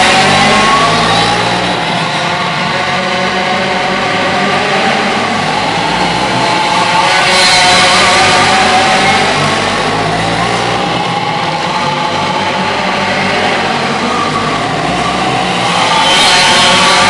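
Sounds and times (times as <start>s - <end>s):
racing karts engines revving: 0.0s - 17.0s.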